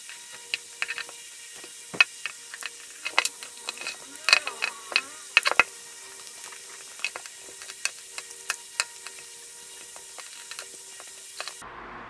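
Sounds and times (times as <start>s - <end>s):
sharp clicks and crackles: 0.0s - 11.6s
faint hum: 0.0s - 12.0s
steady hiss: 0.0s - 12.0s.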